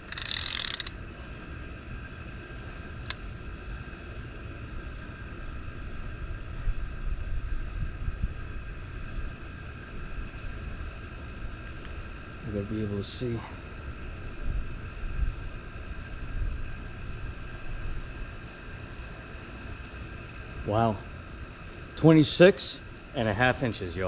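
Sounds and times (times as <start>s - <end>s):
faint high whine: 0.0s - 24.0s.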